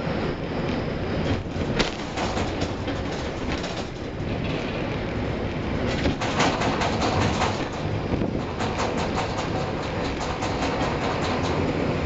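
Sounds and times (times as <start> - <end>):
crane mechanical rumble and hum: 0.0 - 12.0
rattling clacks: 1.3 - 5.2, 5.8 - 12.0.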